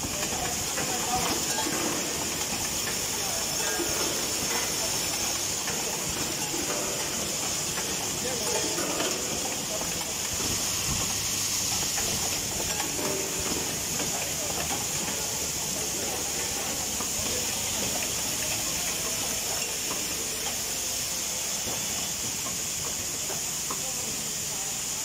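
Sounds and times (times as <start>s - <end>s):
pneumatic hiss: 0.0s - 25.0s.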